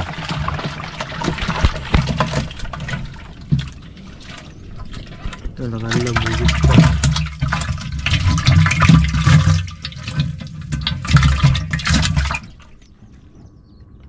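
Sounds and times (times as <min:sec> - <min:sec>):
water pouring off fish trap: 0:00.0 - 0:12.8.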